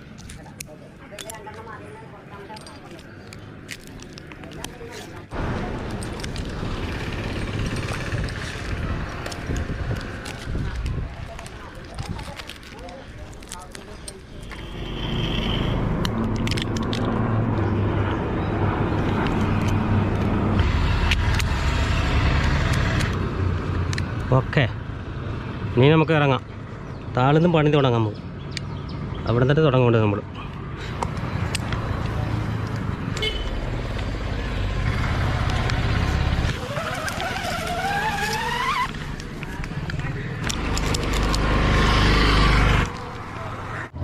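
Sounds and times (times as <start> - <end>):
engine humming: 0.0 - 24.2, 30.8 - 44.0.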